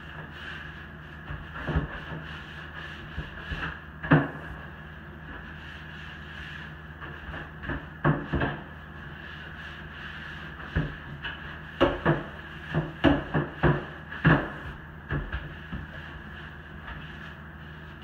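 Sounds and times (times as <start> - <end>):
scrub brush scraping shower wall: 0.0 - 18.0
steady hum: 0.0 - 18.0.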